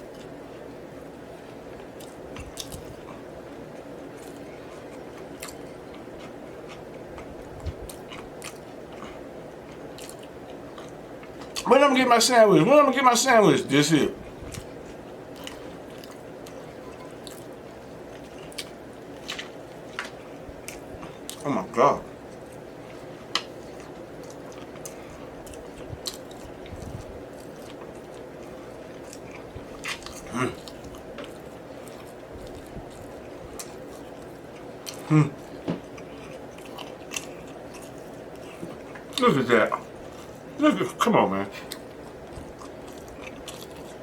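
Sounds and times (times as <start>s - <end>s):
low room hum: 0.0s - 44.0s
close chewing with wet smacks: 1.5s - 11.7s, 14.2s - 21.4s, 22.2s - 40.6s, 41.6s - 44.0s.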